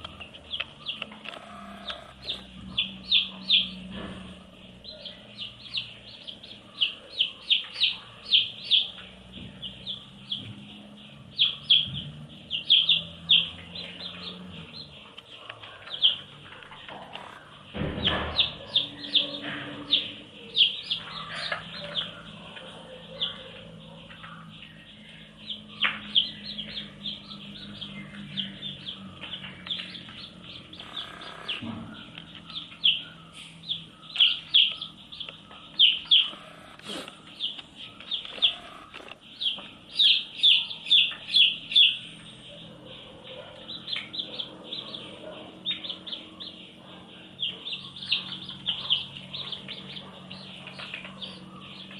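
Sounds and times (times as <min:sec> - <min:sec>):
baby chicks peeping: 0:00.0 - 0:51.9.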